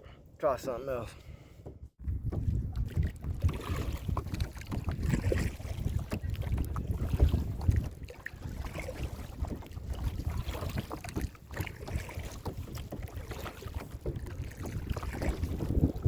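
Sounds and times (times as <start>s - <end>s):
wind buffeting microphone: 1.7s - 16.0s.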